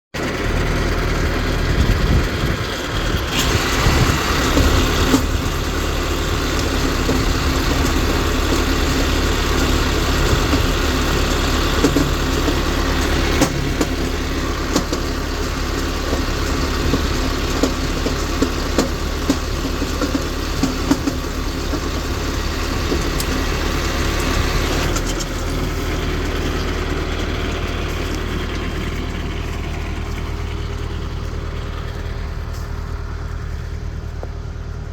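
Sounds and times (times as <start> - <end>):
heavy machine engine running: 0.2 - 34.9.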